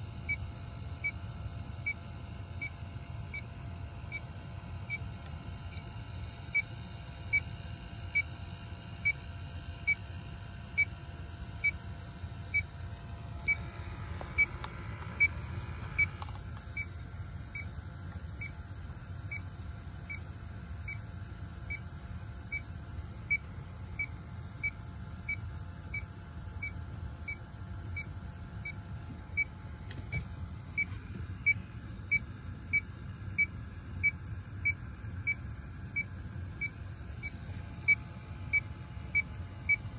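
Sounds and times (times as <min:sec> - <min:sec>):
leak detector beeping: 0:00.0 - 0:39.9.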